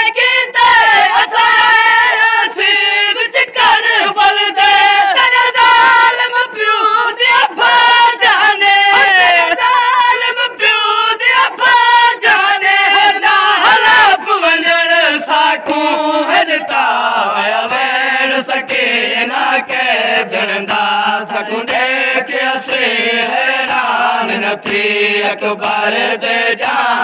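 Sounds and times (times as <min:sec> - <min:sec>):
men chanting a mourning lament: 0:00.0 - 0:27.0.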